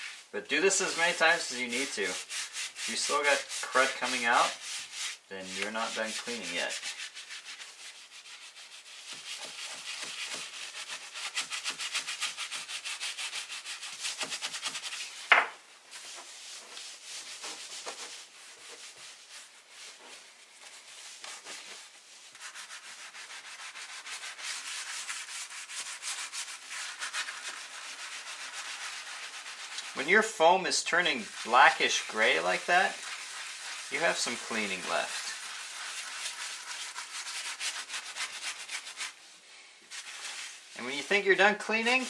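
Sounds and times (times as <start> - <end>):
bristle brush scrubbing leather: 0.0 - 15.2, 15.9 - 39.2, 39.9 - 42.0
cloth wiping: 0.0 - 42.0.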